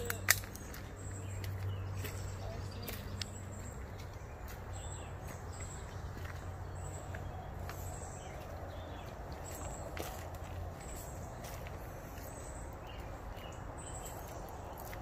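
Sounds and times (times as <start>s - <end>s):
birds and insects chirping: 0.0s - 15.0s
footsteps on stone path: 0.0s - 15.0s.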